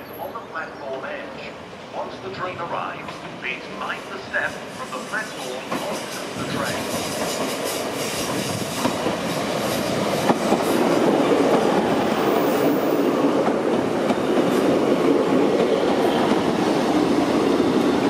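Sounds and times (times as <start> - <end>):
train engine and wheel noise: 0.0 - 18.0.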